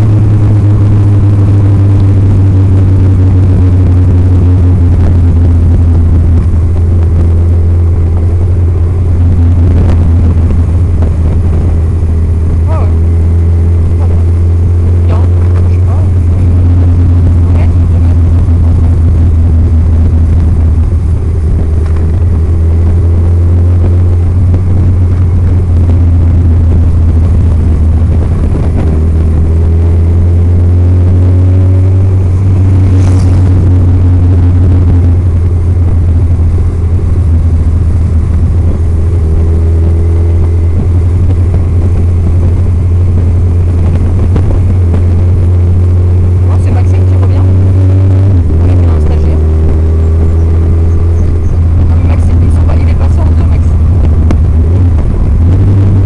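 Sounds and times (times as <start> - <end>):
motorcycle engine: 0.0 - 56.0
wind rumble on microphone: 0.0 - 56.0.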